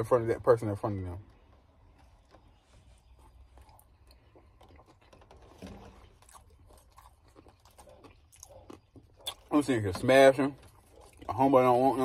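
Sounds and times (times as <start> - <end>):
faint chewing: 1.2 - 12.0.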